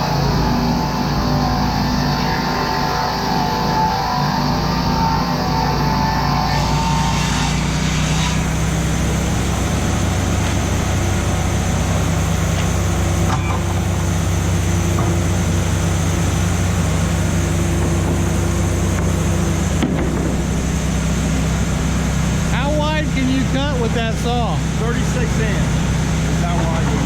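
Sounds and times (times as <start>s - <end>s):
sawmill machinery droning: 0.0s - 27.0s.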